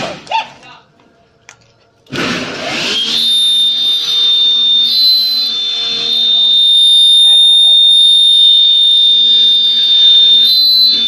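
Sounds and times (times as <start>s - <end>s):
bamboo-cutting machine whining: 2.1s - 11.0s.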